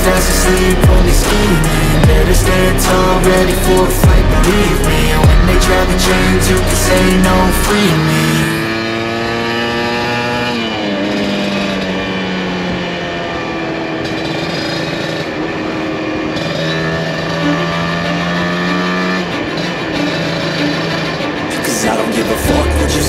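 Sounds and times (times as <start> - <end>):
two-stroke motorcycle engine running: 0.0 - 23.0.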